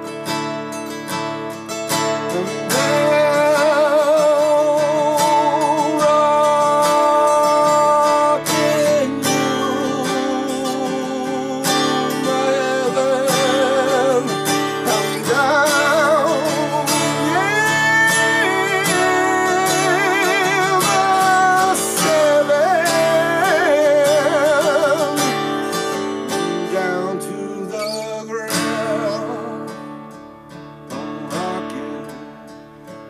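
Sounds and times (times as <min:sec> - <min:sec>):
strummed acoustic guitar: 0:00.0 - 0:33.0
man singing long notes: 0:02.2 - 0:29.9, 0:30.9 - 0:32.4.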